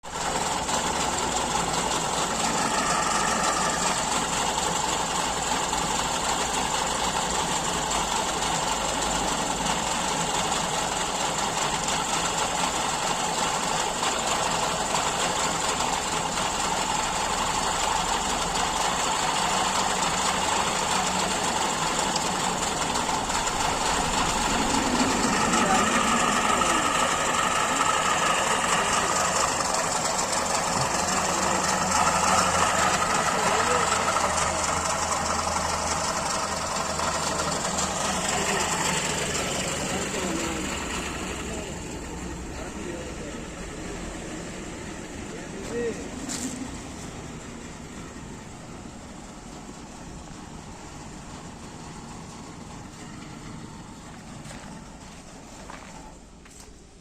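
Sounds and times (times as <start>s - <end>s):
speedboat engine idling: 0.0s - 56.5s.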